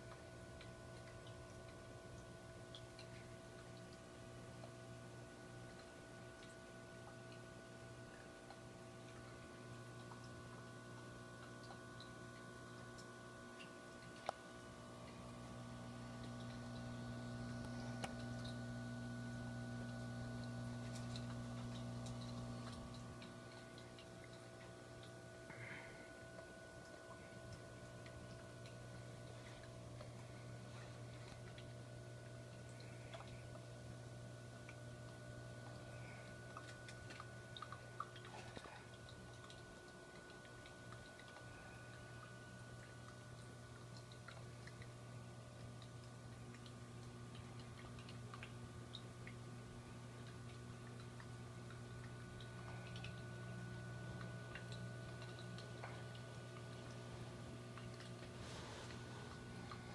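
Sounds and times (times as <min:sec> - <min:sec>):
faint ticks: 0:00.0 - 0:59.9
water pump electrical hum: 0:00.0 - 0:59.9.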